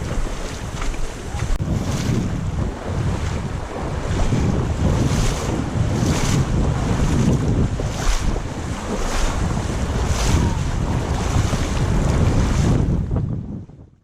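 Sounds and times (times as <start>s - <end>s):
water swishing: 0.0s - 13.2s
wind buffeting microphone: 0.0s - 14.0s.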